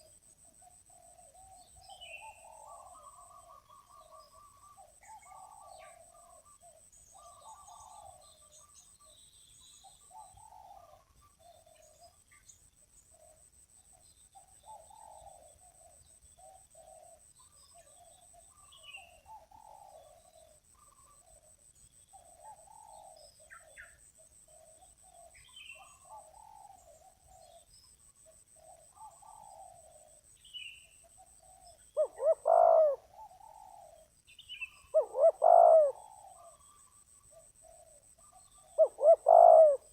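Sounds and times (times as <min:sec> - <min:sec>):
doves cooing: 0:00.0 - 0:08.7, 0:10.0 - 0:12.2, 0:14.4 - 0:39.9.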